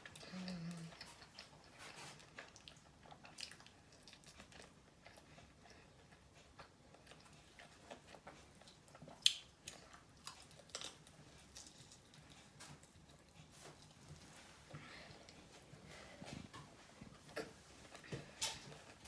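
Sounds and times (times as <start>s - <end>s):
chewing fried chicken: 0.0s - 19.0s.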